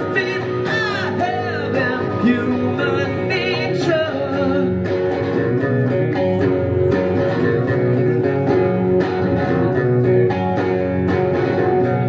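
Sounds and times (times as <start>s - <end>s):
guitar strummed chords: 0.0s - 12.0s.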